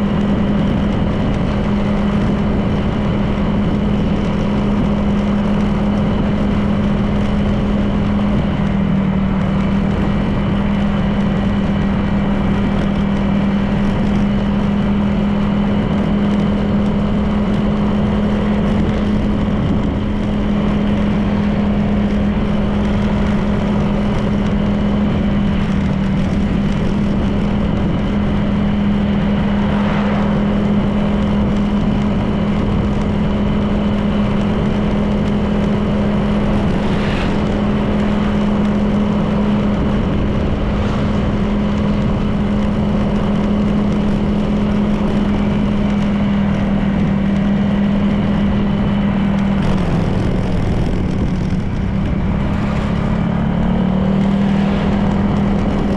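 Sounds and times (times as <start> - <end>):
scooter engine cruising: 0.0 - 55.9
wind and road noise: 0.0 - 55.9.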